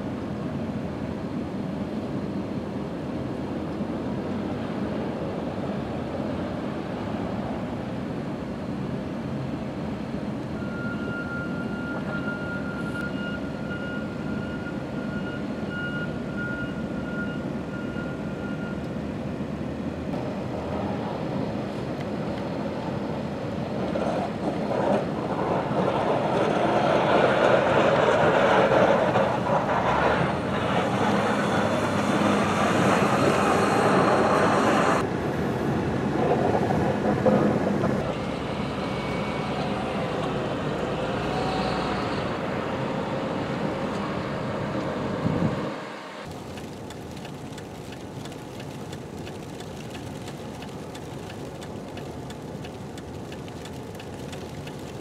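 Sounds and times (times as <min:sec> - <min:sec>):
traffic on a slushy road: 0:00.0 - 0:55.0.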